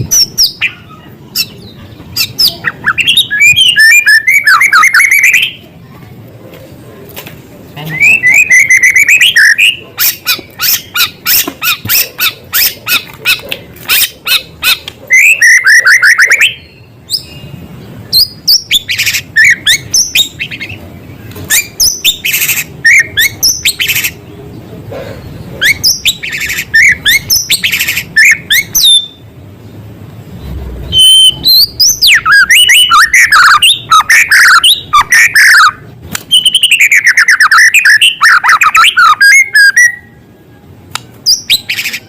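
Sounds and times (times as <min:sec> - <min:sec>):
bird singing: 0:00.0 - 0:05.6, 0:07.7 - 0:42.0.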